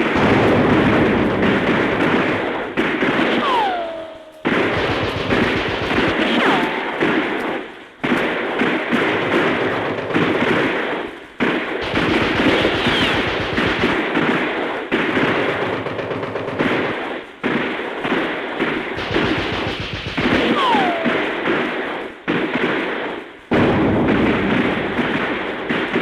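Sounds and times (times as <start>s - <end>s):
heavy explosions: 0.0s - 26.0s
machine-gun and rifle fire: 0.0s - 26.0s.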